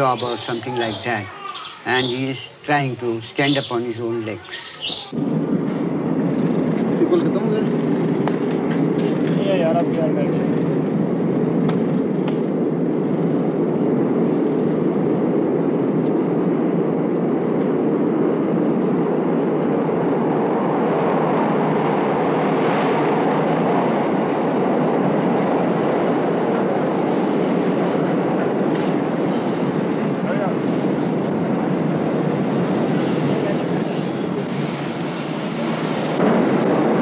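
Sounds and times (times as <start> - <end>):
subway train rumble: 0.0 - 37.0.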